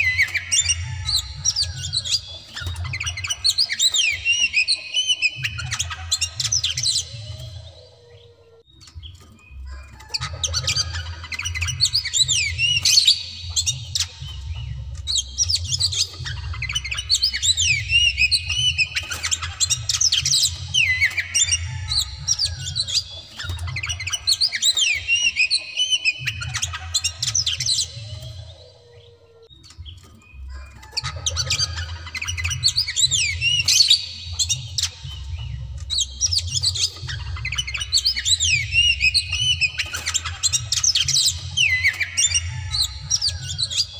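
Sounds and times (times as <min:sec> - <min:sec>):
bird singing whistles: 0:00.0 - 0:43.9.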